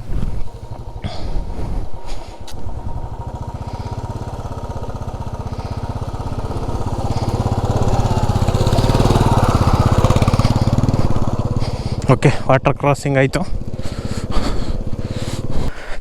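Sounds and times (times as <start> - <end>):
motorcycle engine at low revs: 0.0 - 15.7.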